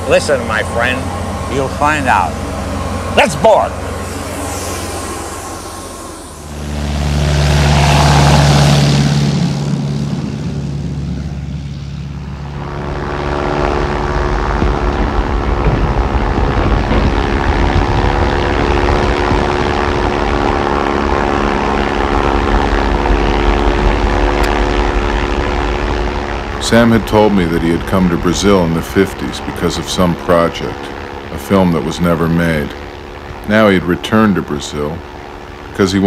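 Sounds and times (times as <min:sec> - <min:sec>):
propeller engine drone in cabin: 0:00.0 - 0:36.0
propeller plane taking off: 0:00.0 - 0:36.0.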